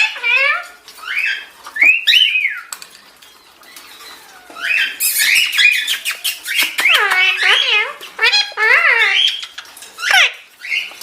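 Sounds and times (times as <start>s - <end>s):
parakeet chirping and whistling: 0.0s - 2.7s, 3.7s - 11.0s.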